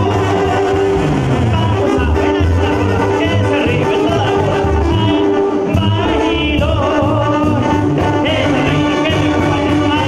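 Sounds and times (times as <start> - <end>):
brass band playing: 0.0 - 10.0
person singing: 0.0 - 10.0
pulsing bass: 0.0 - 10.0.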